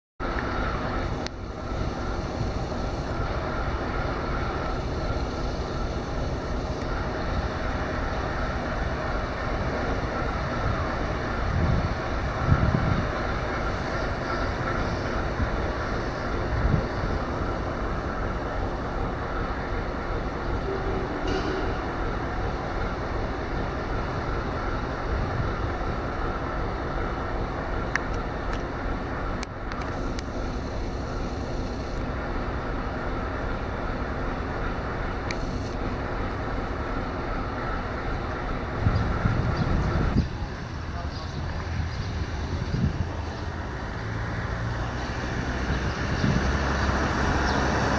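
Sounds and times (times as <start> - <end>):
diesel locomotive running: 0.2 - 47.9.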